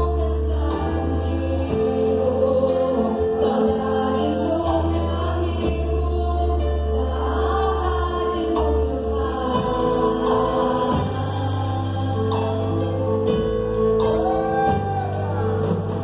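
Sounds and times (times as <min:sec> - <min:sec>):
deep bass: 0:00.0 - 0:16.0
gospel band music: 0:00.0 - 0:16.0.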